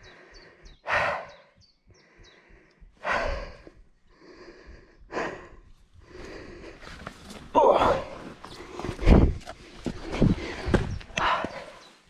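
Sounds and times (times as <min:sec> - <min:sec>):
person breathing hard: 0:00.0 - 0:11.9.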